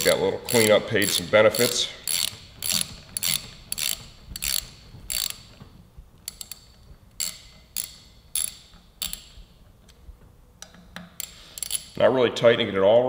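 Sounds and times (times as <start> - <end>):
socket ratchet clicking: 0.0 - 10.0, 10.6 - 12.0.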